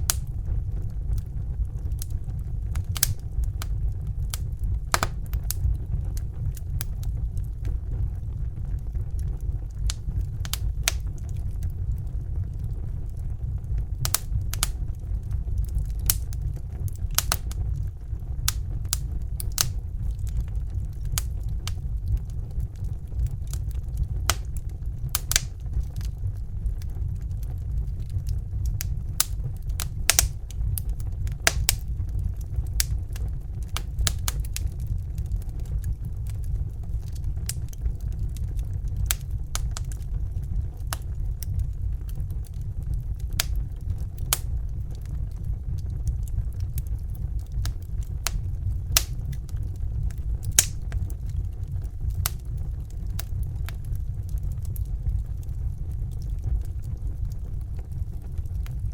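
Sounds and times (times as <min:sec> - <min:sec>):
fire crackling and popping: 0:00.0 - 0:58.9
low rumble: 0:00.0 - 0:58.9.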